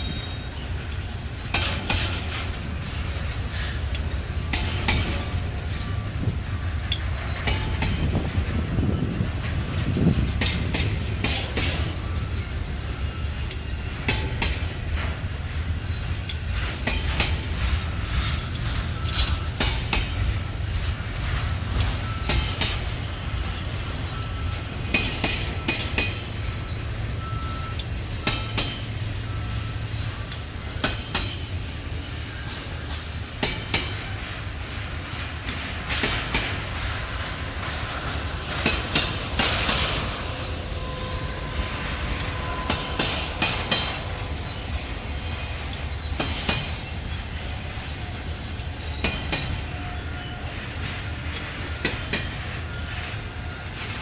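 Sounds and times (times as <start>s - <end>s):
train rumbling past: 0.0s - 54.0s
wheels clacking over rail joints: 0.0s - 54.0s.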